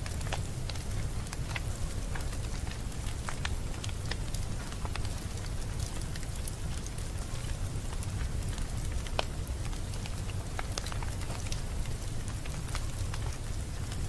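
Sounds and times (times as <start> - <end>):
low rumble of burning: 0.0 - 14.0
wood fire crackling: 0.0 - 14.0.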